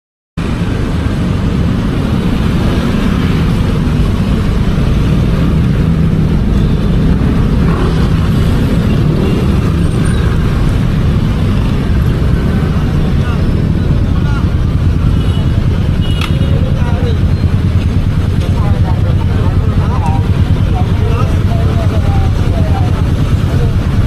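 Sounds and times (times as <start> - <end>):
road traffic and engine rumble: 0.4 - 24.0.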